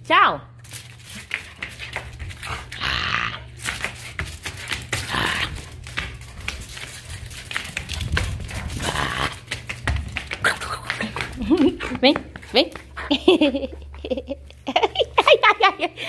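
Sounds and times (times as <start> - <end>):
dog claws clicking on concrete: 0.6 - 13.9.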